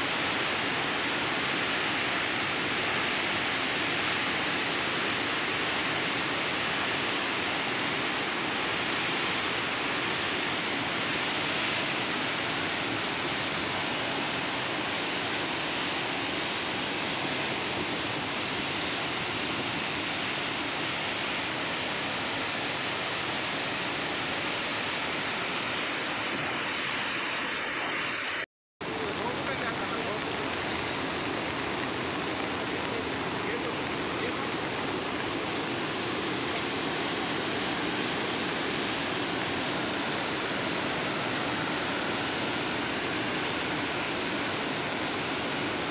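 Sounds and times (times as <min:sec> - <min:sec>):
water rushing from spillway: 0:00.0 - 0:45.9.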